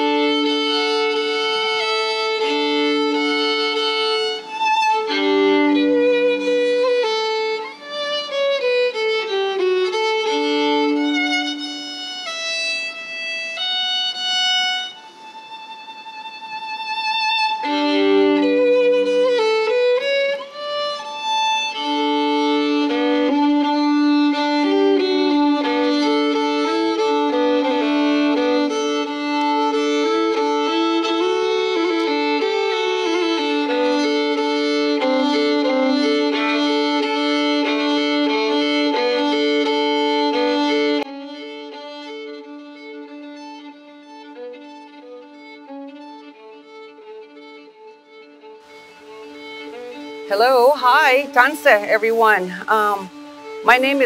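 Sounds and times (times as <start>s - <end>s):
solo violin slow held notes: 0.0s - 54.0s.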